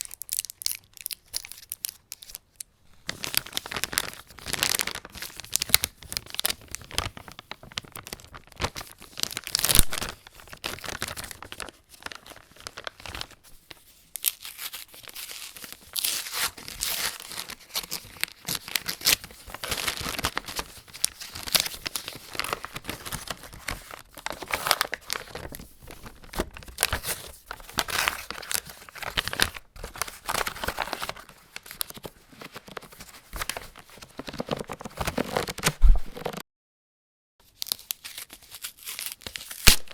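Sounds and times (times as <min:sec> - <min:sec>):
paper wrapper tearing: 0:00.0 - 0:02.4, 0:03.1 - 0:36.4, 0:37.5 - 0:39.9
plastic packaging crinkling: 0:00.0 - 0:36.4, 0:37.4 - 0:39.9.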